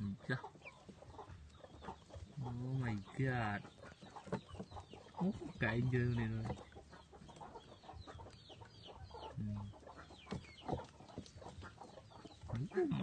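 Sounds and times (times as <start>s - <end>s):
chicken clucking: 0.0s - 13.0s
chicks peeping: 0.0s - 13.0s.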